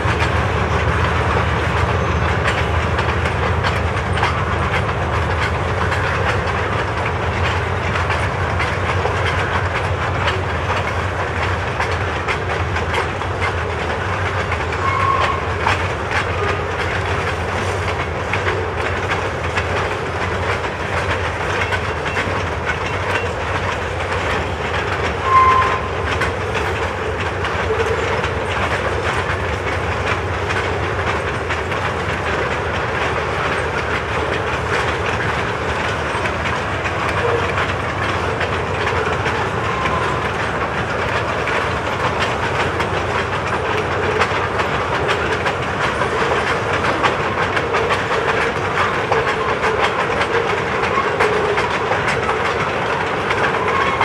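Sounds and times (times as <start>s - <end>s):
train rumble: 0.0s - 54.0s
train wheels clacking over rail joints: 0.0s - 54.0s.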